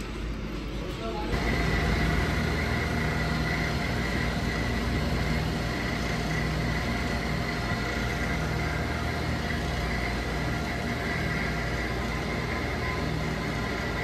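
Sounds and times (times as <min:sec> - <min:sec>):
condensing unit hum: 0:00.0 - 0:14.0
faint high whine: 0:00.0 - 0:14.0.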